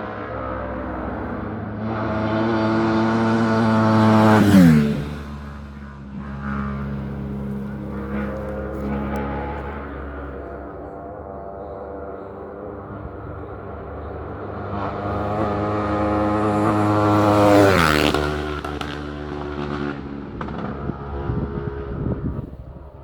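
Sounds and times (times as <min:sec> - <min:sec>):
motorcycle passing at high speed: 0:00.0 - 0:23.0.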